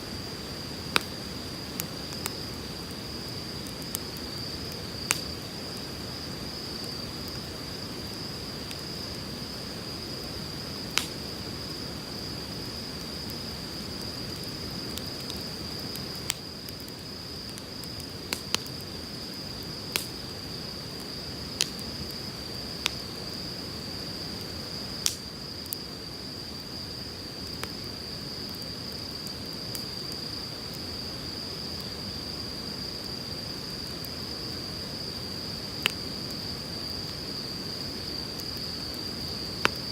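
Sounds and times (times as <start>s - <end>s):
firewood crackling and popping: 0.1s - 30.9s, 35.4s - 39.9s.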